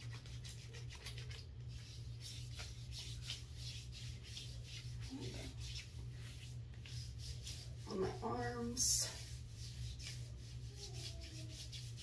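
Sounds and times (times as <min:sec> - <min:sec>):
hand rubbing cream into skin: 0:00.0 - 0:08.2, 0:09.1 - 0:12.0
faint low hum: 0:00.0 - 0:12.0.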